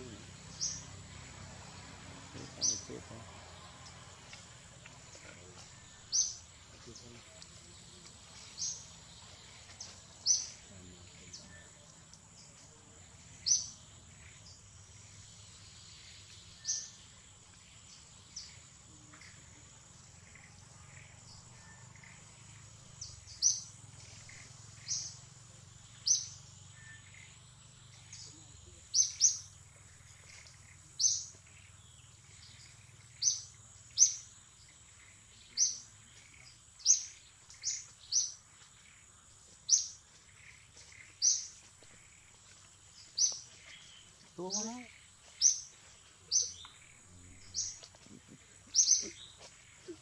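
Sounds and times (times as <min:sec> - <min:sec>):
bird chirping: 0:00.0 - 0:50.0.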